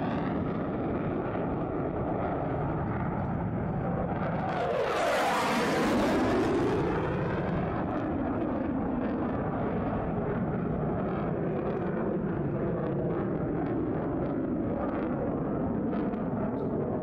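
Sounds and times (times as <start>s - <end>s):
distant fighter jet engines: 0.0s - 17.0s.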